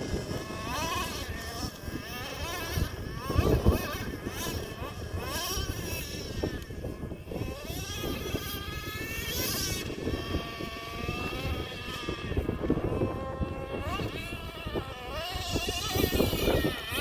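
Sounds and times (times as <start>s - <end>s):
small nitro engine revving: 0.0s - 17.0s.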